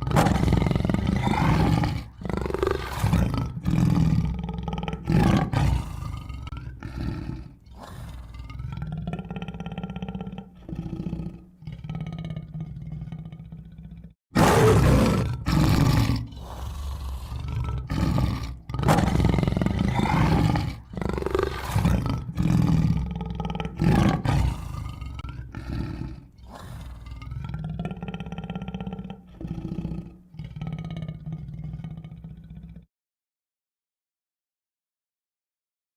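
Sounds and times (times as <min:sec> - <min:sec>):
tiger roaring and growling: 0:00.0 - 0:32.9.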